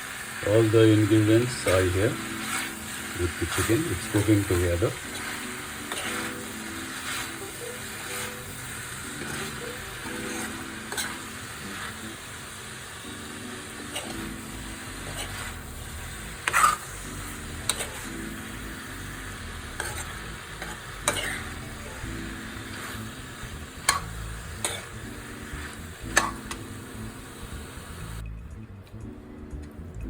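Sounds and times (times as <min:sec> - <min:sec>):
food sizzling in a frying pan: 0:00.0 - 0:28.2.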